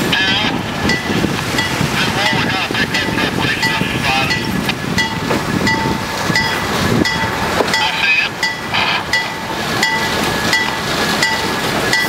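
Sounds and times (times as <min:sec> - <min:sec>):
diesel locomotive running: 0:00.0 - 0:12.0.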